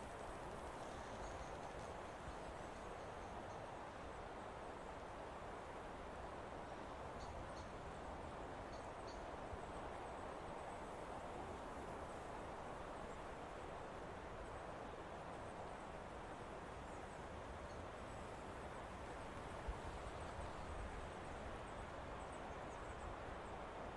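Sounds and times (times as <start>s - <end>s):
wind through trees: 0.0s - 23.9s.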